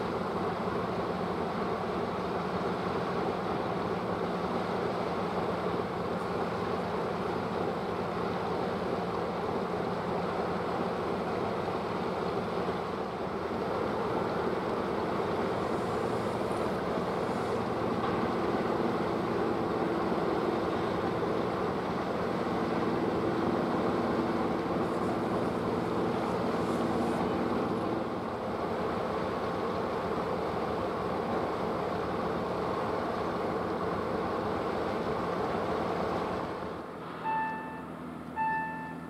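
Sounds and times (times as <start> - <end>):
low machinery drone: 0.0 - 39.0.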